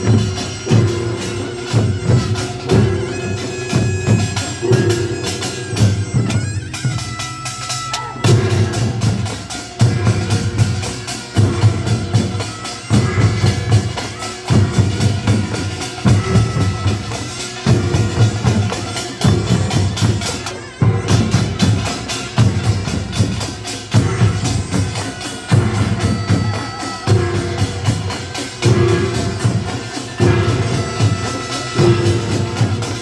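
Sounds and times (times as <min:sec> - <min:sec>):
percussion band drums and gongs: 0:00.0 - 0:33.0.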